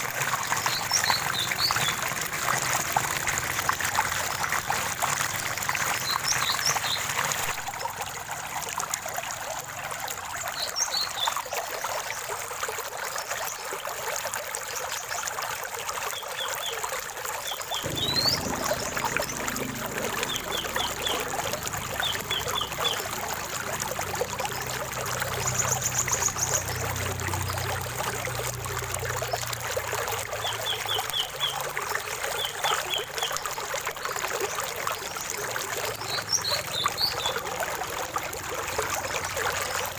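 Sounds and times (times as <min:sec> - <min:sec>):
deep rushing water: 0:00.0 - 0:11.0, 0:17.6 - 0:39.9
water trickling and splashing: 0:00.0 - 0:39.9.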